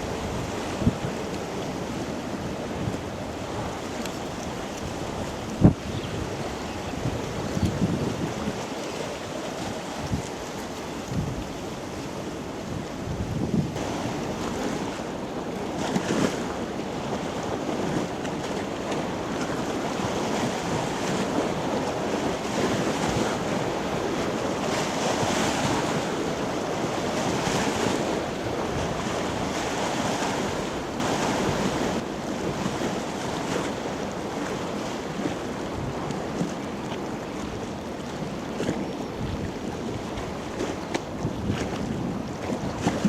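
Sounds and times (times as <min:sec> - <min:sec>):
rushing water: 0:00.0 - 0:43.0
wind buffeting microphone: 0:00.0 - 0:43.0.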